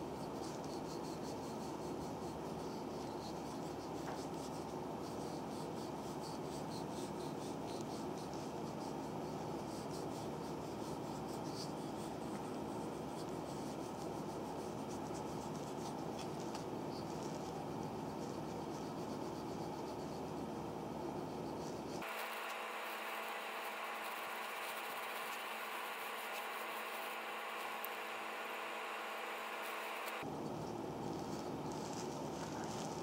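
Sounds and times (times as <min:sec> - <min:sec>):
massage stick rubbing skin: 0:00.2 - 0:30.3, 0:31.1 - 0:33.0.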